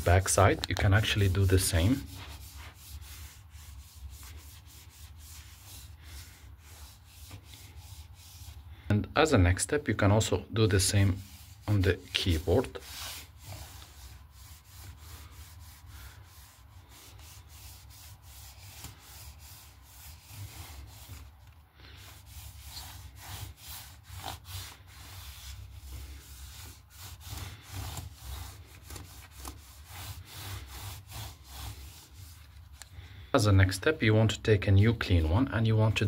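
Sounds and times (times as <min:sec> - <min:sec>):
wipe rubbing laptop keyboard: 0:00.0 - 0:08.7, 0:10.1 - 0:32.9.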